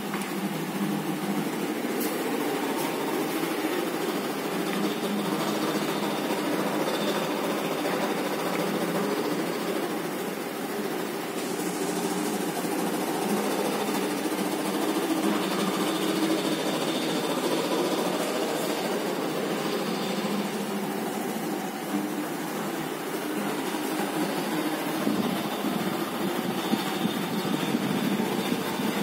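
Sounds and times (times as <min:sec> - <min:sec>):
roll laminator running: 0:00.0 - 0:29.0.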